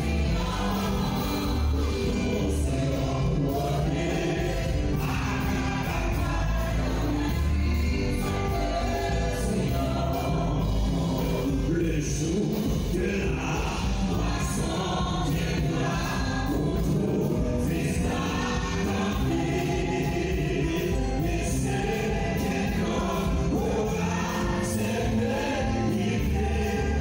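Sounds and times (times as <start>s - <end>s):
choir singing with instruments: 0.0s - 27.0s.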